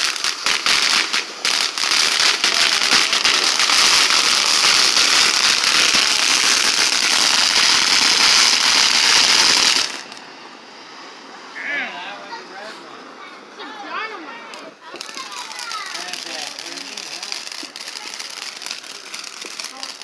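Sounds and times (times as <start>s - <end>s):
firework fountain hissing and crackling: 0.0s - 20.0s.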